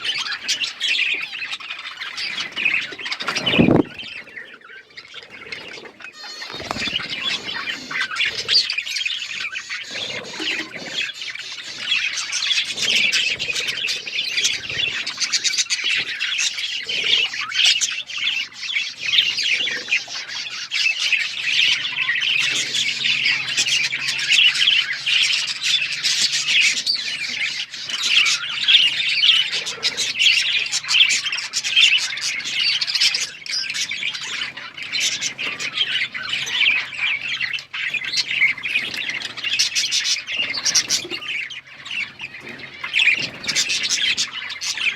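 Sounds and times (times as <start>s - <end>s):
budgerigars chirping: 0.0s - 44.9s.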